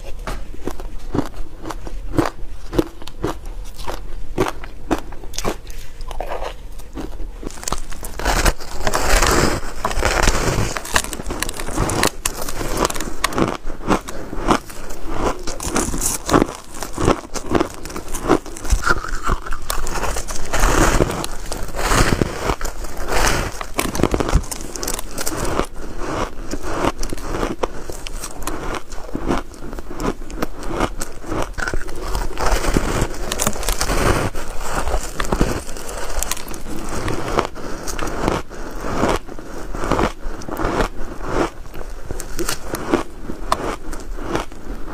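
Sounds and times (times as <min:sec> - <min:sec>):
crunching shaved ice: 0:00.0 - 0:44.9.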